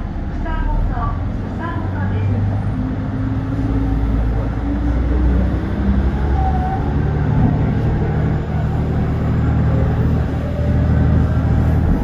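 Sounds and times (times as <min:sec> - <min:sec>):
low diesel engine hum: 0:00.0 - 0:12.0
train running noise: 0:00.0 - 0:12.0.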